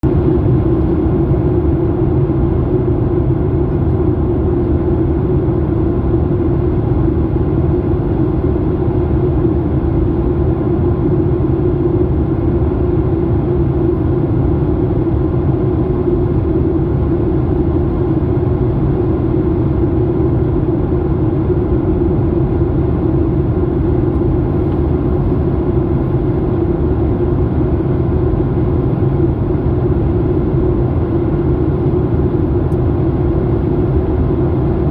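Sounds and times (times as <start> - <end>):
airliner cabin drone: 0.0 - 34.9.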